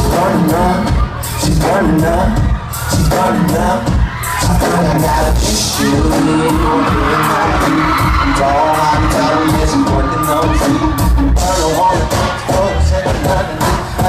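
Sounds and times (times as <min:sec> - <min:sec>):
heavy bass drum thumps: 0:00.0 - 0:14.0
loud band playing: 0:00.0 - 0:14.0
man singing into a microphone: 0:00.0 - 0:14.0.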